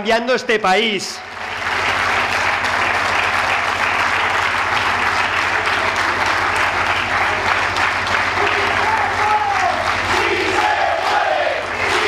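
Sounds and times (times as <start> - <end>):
crowd applauding: 1.2 - 12.0.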